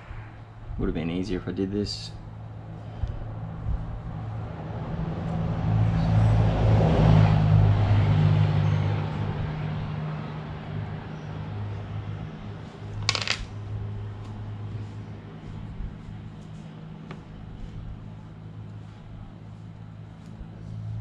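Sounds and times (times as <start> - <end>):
vehicle passing: 2.2 - 21.0.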